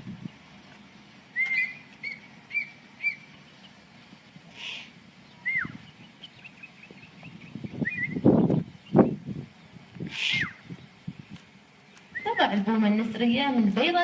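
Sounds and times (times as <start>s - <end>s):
bird calling: 0.2s - 14.0s.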